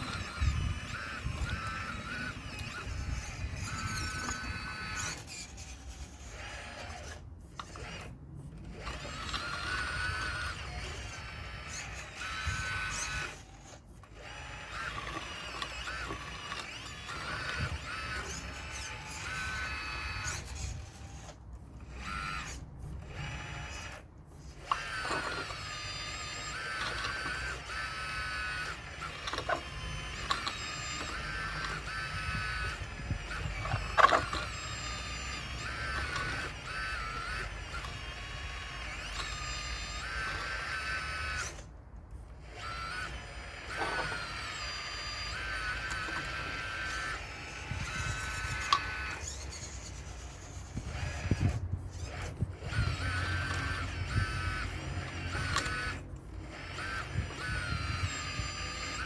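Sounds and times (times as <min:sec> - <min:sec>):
electric motors whining: 0:00.0 - 0:59.0.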